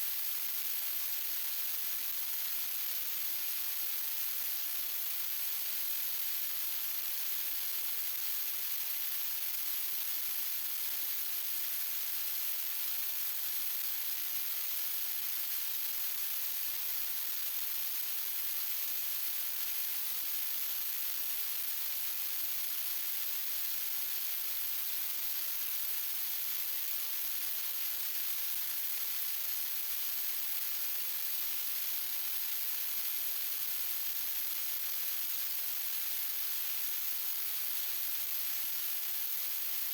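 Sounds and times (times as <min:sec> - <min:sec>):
steady static hiss: 0:00.0 - 0:39.9.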